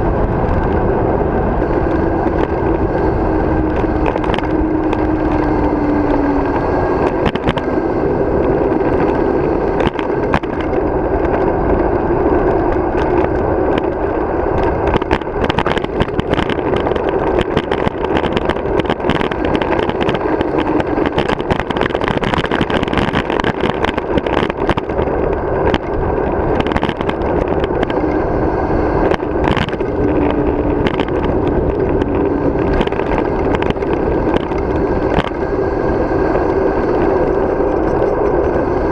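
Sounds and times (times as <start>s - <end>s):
road hum: 0.0s - 38.9s
wind rushing over microphone: 0.0s - 38.9s.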